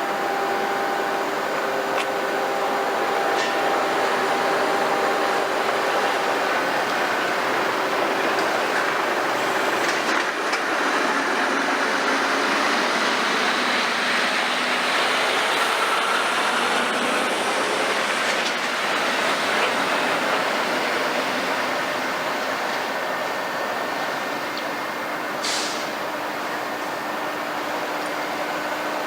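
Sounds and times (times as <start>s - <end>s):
heavy machinery running: 0.0s - 29.0s.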